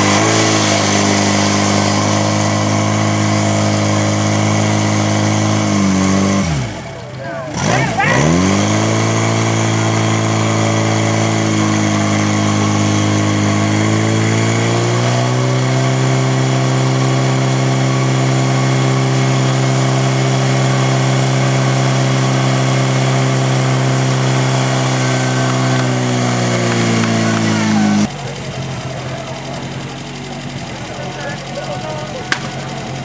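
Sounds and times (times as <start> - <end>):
pump engine running at high revs: 0.0 - 33.0.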